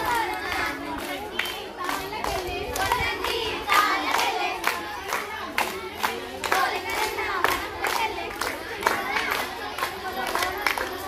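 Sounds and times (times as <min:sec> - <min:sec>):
girls singing folk song: 0:00.0 - 0:11.0
hands clapping in time: 0:00.0 - 0:11.0.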